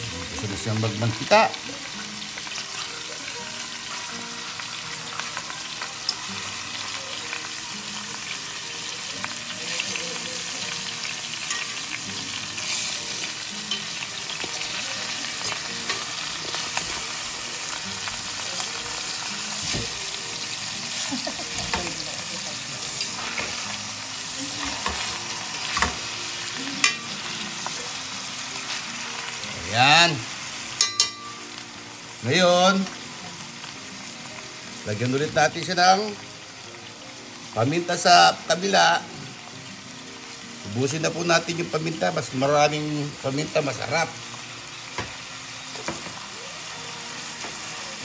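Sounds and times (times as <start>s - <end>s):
fish sizzling in a pan: 0.0s - 48.0s.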